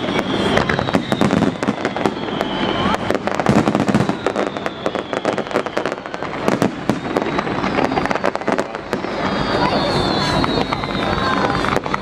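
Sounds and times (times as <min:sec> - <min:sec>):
fireworks bangs and crackles: 0:00.0 - 0:12.0
thin high whistle: 0:00.0 - 0:12.0.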